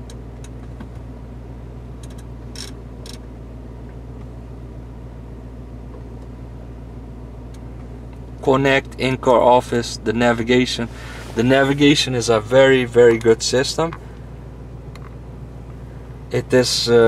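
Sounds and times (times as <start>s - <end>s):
car cabin low hum: 0.0s - 17.0s.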